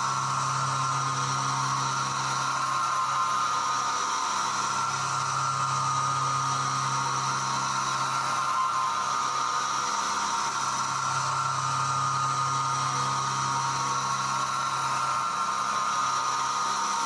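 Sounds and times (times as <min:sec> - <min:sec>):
machine low hum: 0:00.0 - 0:17.0
milling machine spindle whining: 0:00.0 - 0:17.0.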